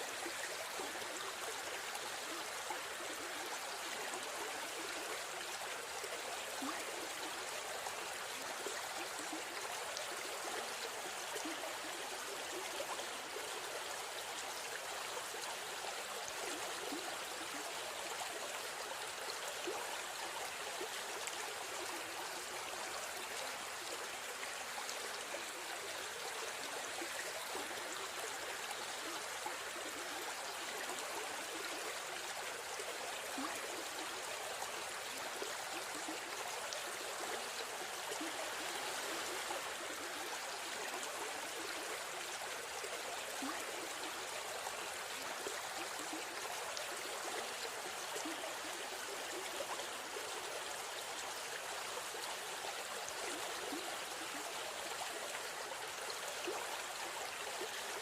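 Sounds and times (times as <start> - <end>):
river stream flowing: 0.0 - 58.0.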